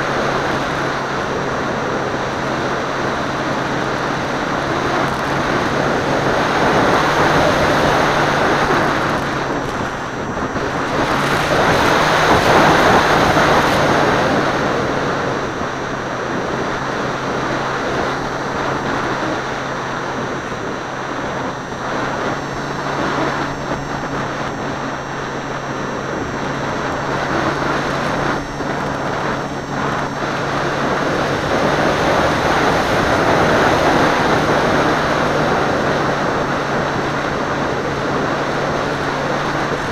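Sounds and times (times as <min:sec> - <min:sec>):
motor humming: 0:00.0 - 0:39.9
wind rushing over camera: 0:00.0 - 0:39.9.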